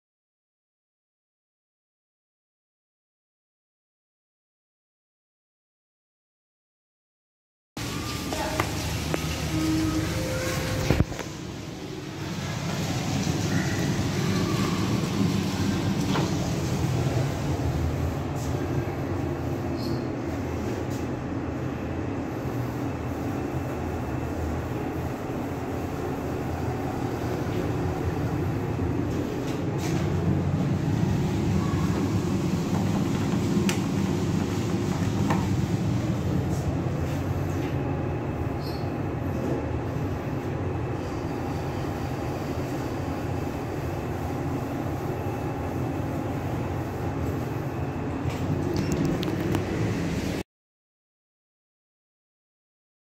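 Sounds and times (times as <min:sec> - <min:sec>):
elevator rumble and hum: 0:07.8 - 0:50.4.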